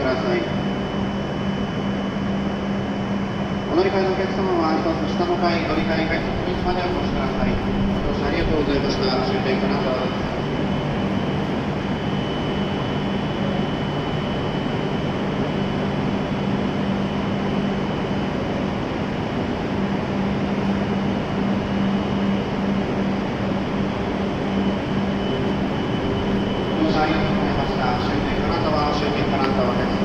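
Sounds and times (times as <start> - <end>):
faint high whine: 0.0 - 30.0
train equipment humming: 5.2 - 30.0.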